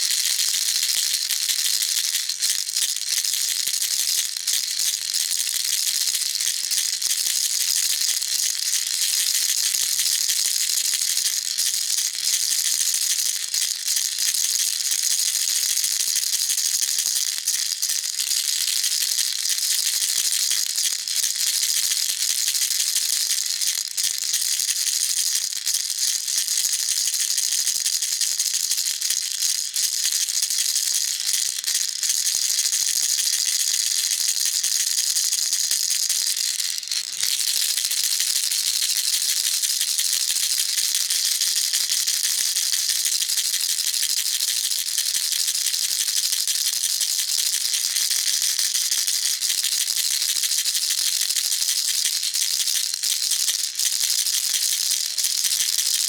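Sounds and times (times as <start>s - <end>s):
baby rattle shaking: 0.0s - 24.2s, 28.4s - 56.0s.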